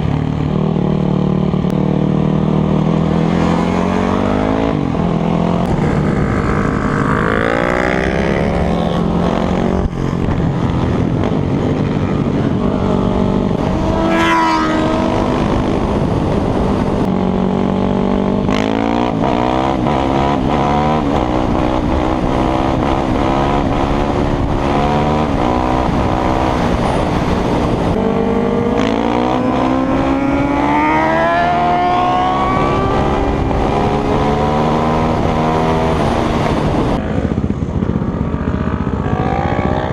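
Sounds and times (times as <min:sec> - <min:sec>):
motorcycle engines accelerating: 0:00.0 - 0:39.9.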